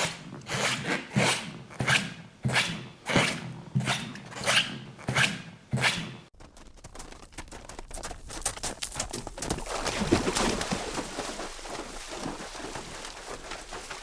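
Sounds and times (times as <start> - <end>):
rubber footsteps squeaking: 0.0 - 14.0.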